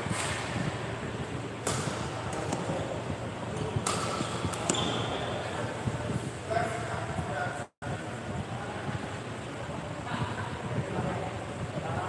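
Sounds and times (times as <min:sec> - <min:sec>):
badminton hall background noise: 0:00.0 - 0:12.0.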